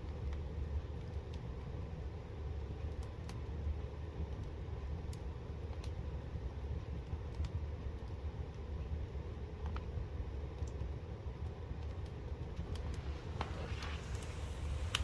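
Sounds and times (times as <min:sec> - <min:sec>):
fire crackles: 0:00.0 - 0:15.0
fire low rumble: 0:00.0 - 0:15.0.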